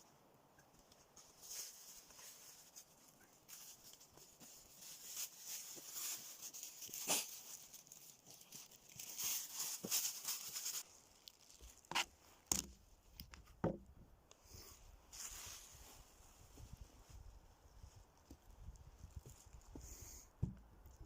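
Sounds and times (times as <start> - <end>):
dry crackling and rustling: 0.6 - 13.6, 14.3 - 21.0.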